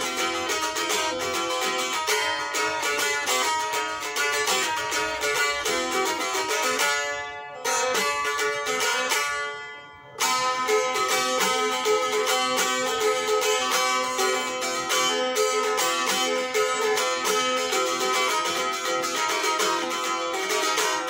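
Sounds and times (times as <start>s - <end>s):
plucked long-necked lute: 0.0s - 21.0s.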